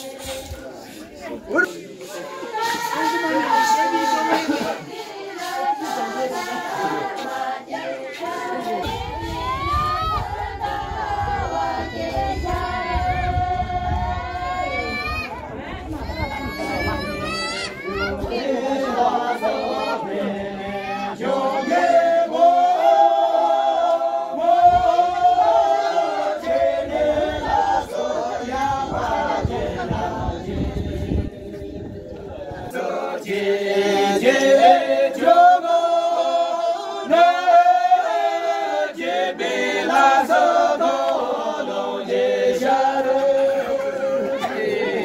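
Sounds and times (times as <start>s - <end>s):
group singing unaccompanied: 0.0s - 45.0s.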